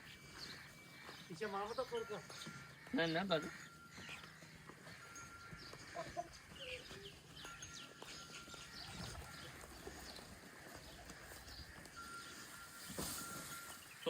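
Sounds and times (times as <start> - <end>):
birds chirping: 0.0 - 14.0
low bird calls: 0.0 - 14.0.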